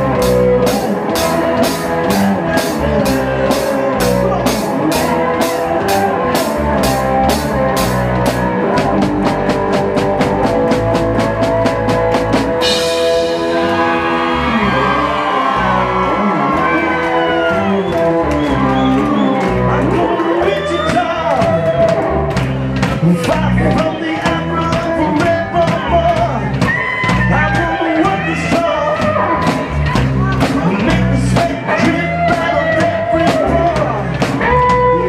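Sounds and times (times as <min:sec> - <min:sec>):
drum kit playing: 0:00.0 - 0:35.0
rock song with guitar: 0:00.0 - 0:35.0.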